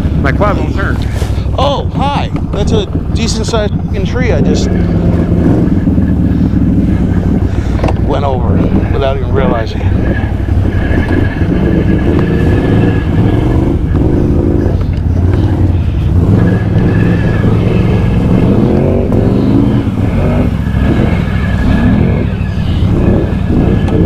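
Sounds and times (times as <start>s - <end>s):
atv engine revving under load: 0.0s - 24.0s.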